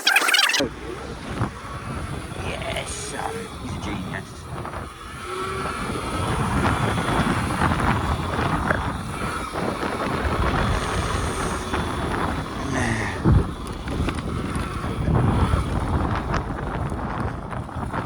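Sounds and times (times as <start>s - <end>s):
wind buffeting microphone: 0.7s - 18.0s.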